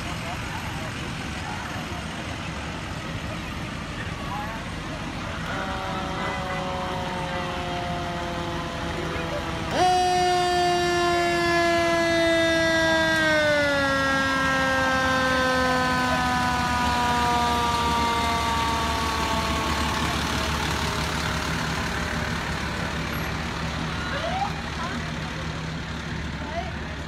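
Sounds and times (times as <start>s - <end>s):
fire truck siren: 0.0s - 27.0s
truck engine rumbling: 0.0s - 27.0s.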